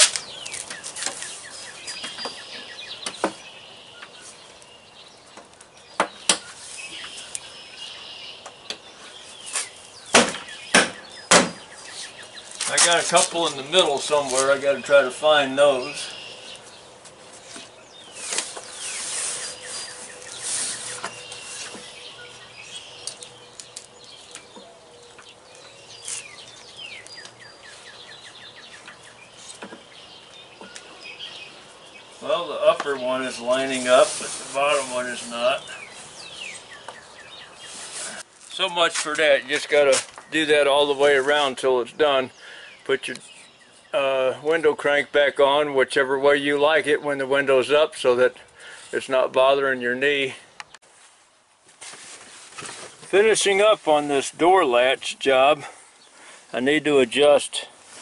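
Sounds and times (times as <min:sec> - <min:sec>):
birds chirping: 0:00.0 - 0:51.5, 0:52.2 - 0:58.0
songbird singing: 0:00.0 - 0:51.5, 0:52.2 - 0:58.0.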